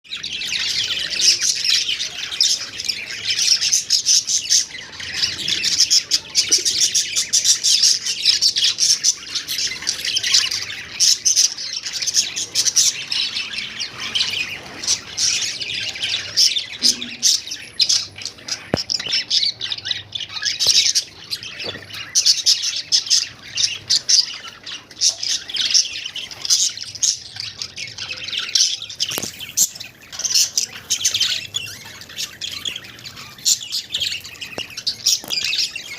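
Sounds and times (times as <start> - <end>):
budgerigars chattering: 0.1 - 35.9.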